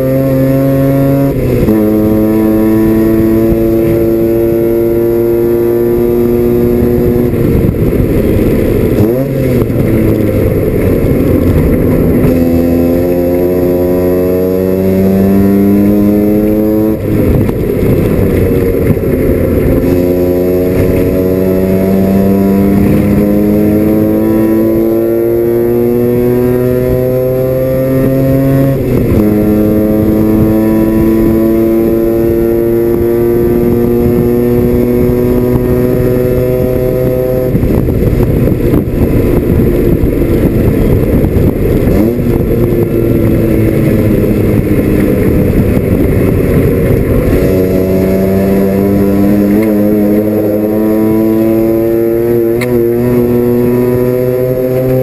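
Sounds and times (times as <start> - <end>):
rotary engine revving in cabin: 0.0 - 55.0.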